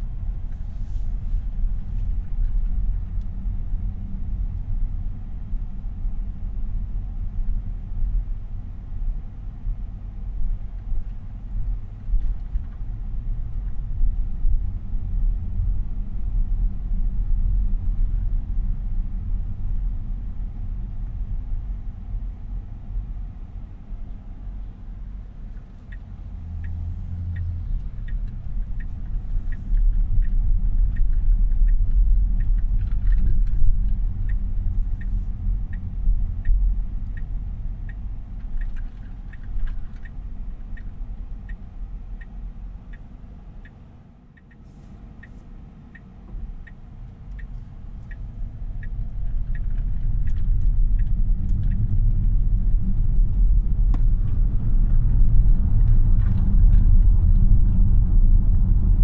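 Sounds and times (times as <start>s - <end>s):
road and tyre rumble: 0.0s - 59.0s
turn signal ticking: 0.0s - 59.0s.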